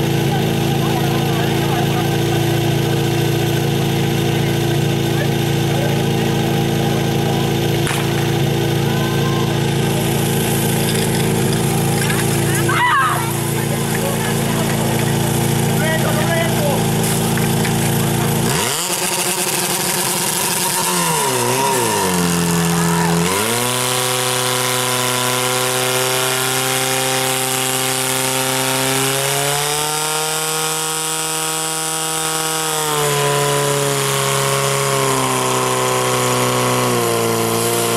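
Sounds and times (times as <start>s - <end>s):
petrol pump engine revving: 0.0s - 37.9s.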